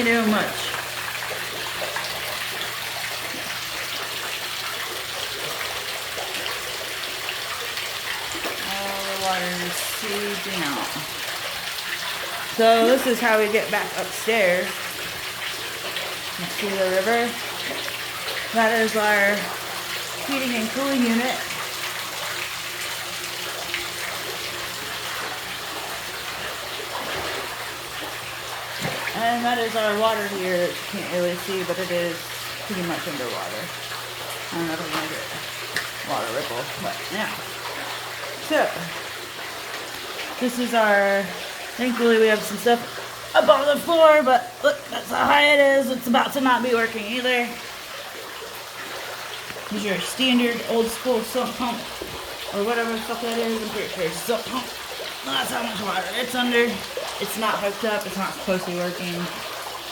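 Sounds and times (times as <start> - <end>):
floodwater pouring and splashing: 0.0 - 59.9.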